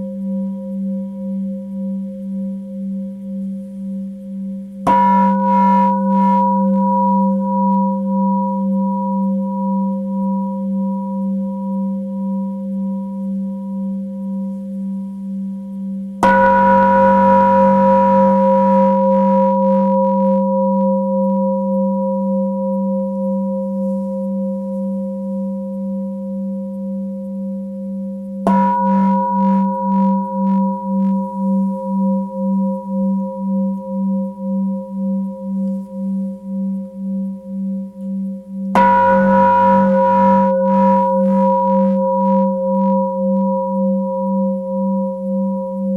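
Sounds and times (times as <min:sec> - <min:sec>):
singing bowl ringing: 0:00.0 - 0:45.9.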